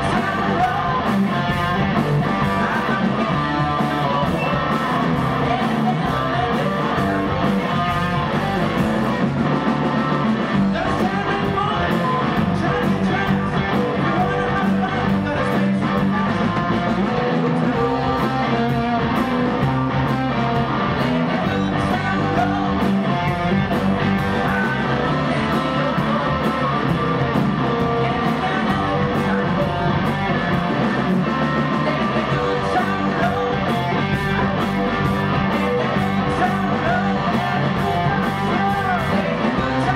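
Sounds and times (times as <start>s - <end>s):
blues rock band playing: 0.0s - 39.9s.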